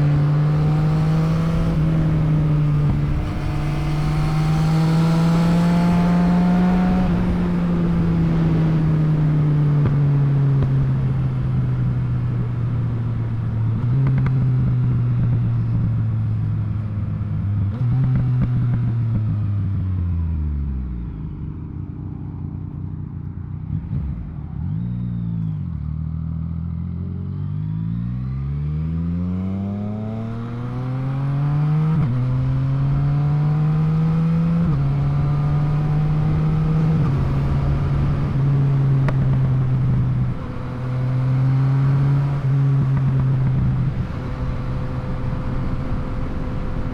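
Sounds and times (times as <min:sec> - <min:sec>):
motorcycle engine revving: 0:00.0 - 0:12.6, 0:17.2 - 0:46.9.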